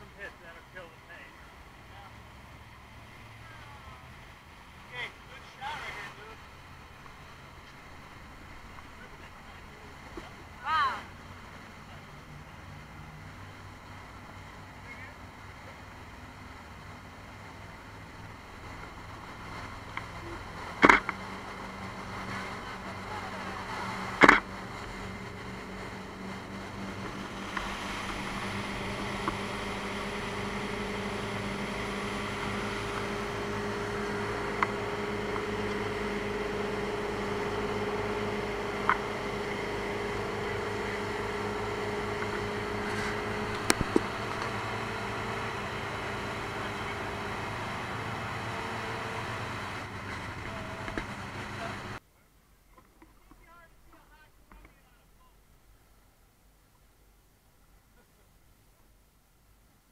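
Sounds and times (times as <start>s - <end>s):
motorboat engine running: 0.0s - 52.0s
wind and water noise: 0.0s - 59.9s.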